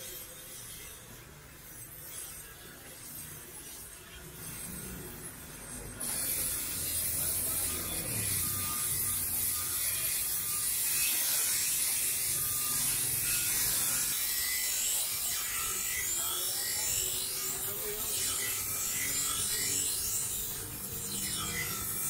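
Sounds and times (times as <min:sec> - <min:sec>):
bench grinder sharpening blade: 0:00.0 - 0:22.0.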